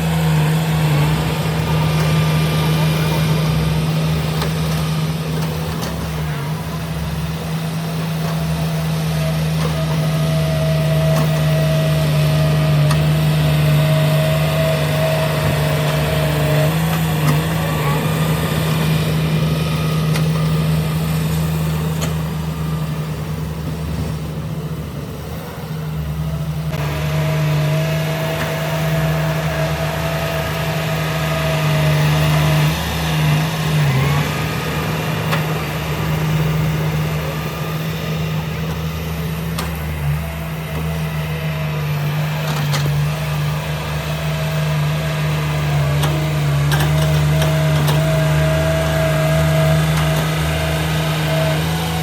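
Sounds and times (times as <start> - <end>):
diesel engine droning: 0.0 - 52.0
thin engine whine: 0.0 - 52.0.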